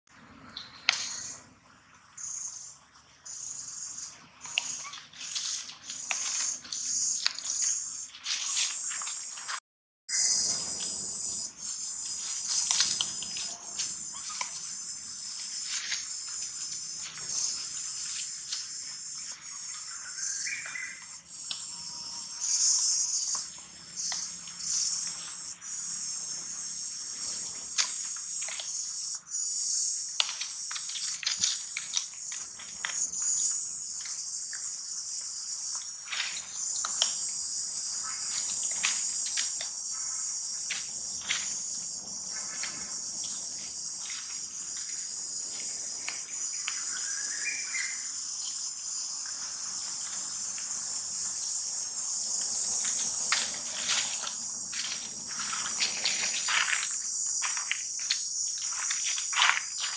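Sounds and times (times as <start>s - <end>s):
insects chorus: 0.2s - 1.6s, 2.2s - 59.9s.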